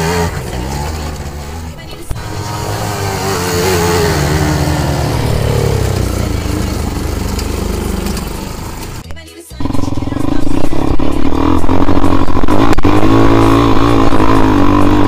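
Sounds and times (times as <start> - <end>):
quad bike engine revving: 0.0 - 15.0.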